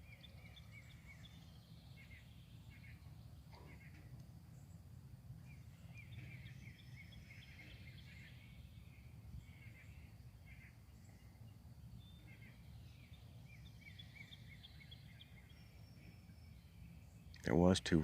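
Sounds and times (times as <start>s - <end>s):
faint songbird chirping: 0.0s - 18.0s.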